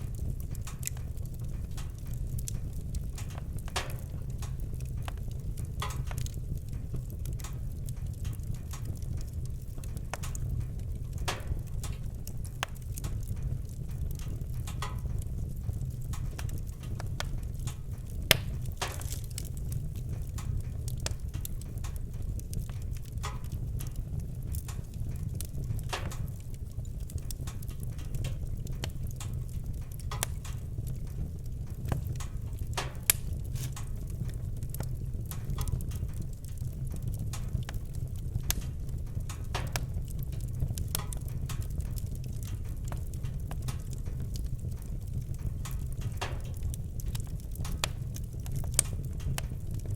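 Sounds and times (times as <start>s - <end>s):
low rumble of flames: 0.0s - 49.9s
sharp pops of fire: 0.0s - 49.9s
wood fire crackling: 0.0s - 49.9s.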